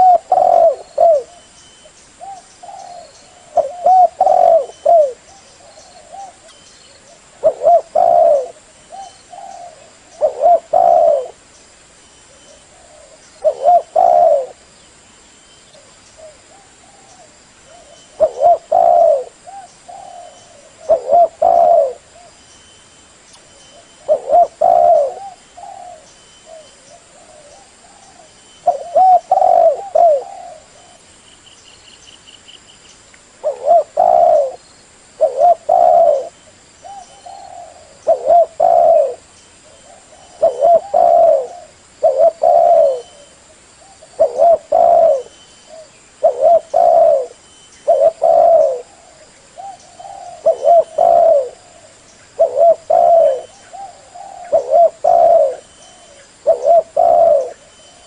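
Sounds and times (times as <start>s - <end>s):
dove cooing: 0.0s - 11.4s, 12.3s - 14.6s, 15.8s - 22.4s, 23.6s - 31.1s, 33.4s - 34.6s, 35.2s - 58.0s.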